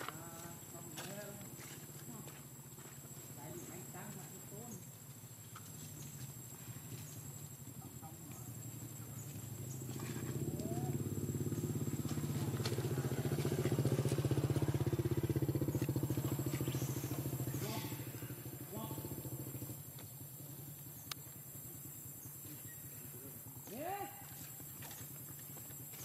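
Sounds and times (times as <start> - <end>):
motorcycle engine running: 0.3 - 23.7.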